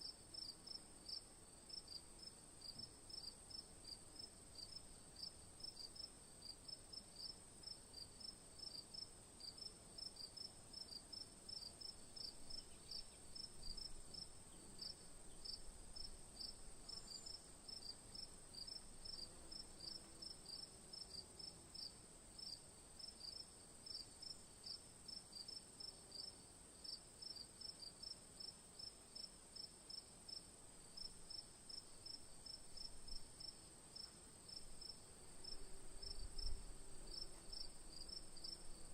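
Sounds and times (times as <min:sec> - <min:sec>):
cricket chirping: 0:00.0 - 0:38.9
faint steady hiss: 0:00.0 - 0:38.9.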